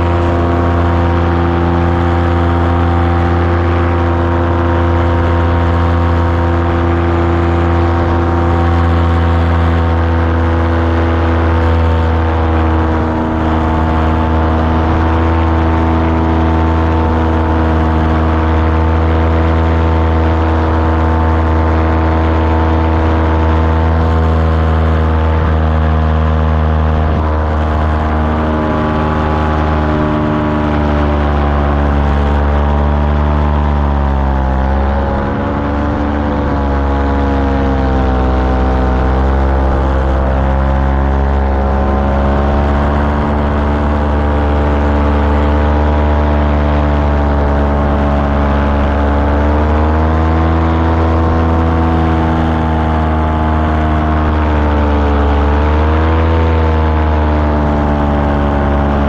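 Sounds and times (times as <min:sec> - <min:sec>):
light aircraft engine running: 0:00.0 - 0:59.0.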